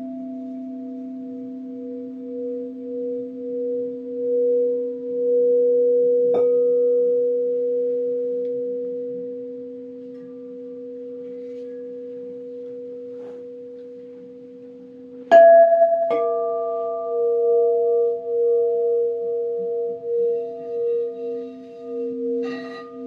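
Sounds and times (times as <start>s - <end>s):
crystal singing bowls ringing: 0.0s - 23.0s.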